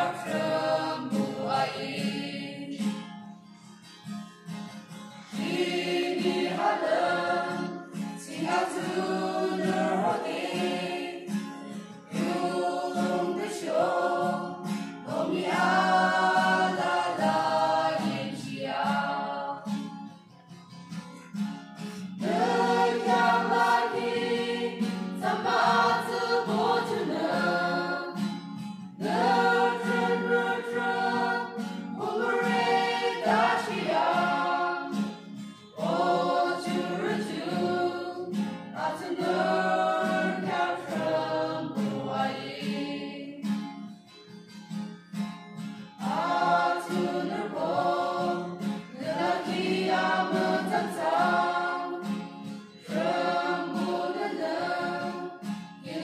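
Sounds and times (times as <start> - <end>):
choir singing a hymn: 0.0 - 3.1, 5.2 - 20.0, 21.8 - 43.9, 46.0 - 56.0
acoustic guitar: 0.0 - 56.0.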